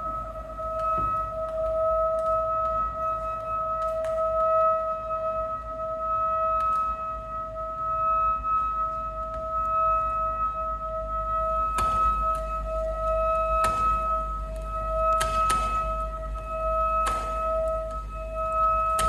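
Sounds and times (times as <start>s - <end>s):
electronic drone of pure tones: 0.0s - 19.0s.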